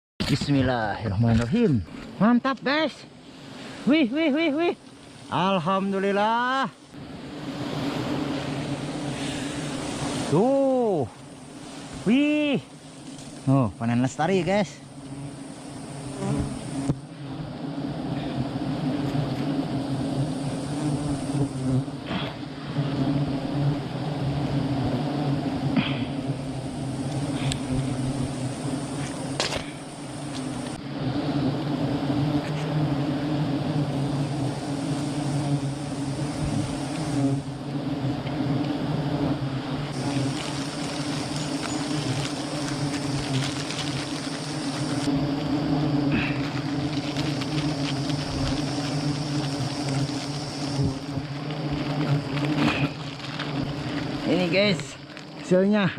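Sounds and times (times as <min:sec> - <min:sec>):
bees buzzing: 0:00.3 - 0:55.9.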